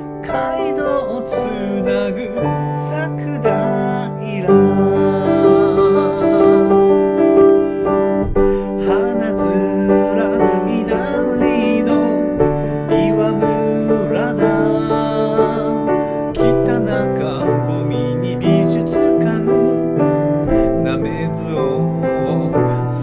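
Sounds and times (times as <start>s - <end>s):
person singing: 0.0s - 23.0s
piano chords: 0.0s - 23.0s.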